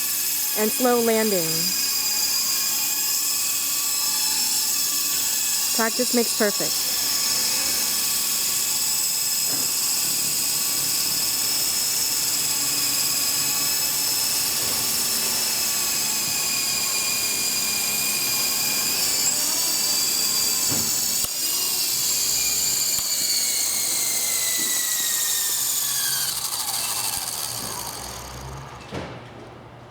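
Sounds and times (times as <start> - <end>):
toy helicopter rotor whine: 0.0 - 28.9.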